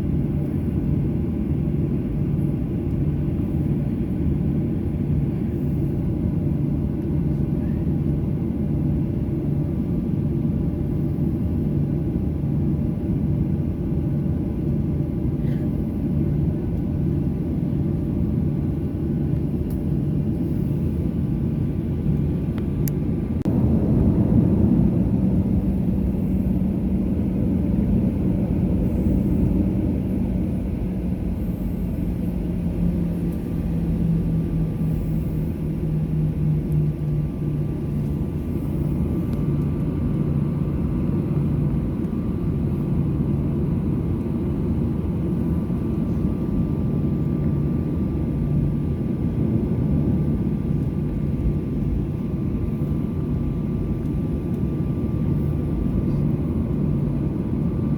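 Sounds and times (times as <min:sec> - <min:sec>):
airplane cabin engine rumble: 0:00.0 - 0:57.9.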